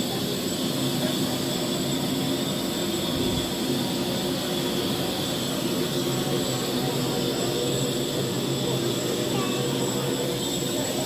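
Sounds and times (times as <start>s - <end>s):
train drone: 0.0s - 11.0s.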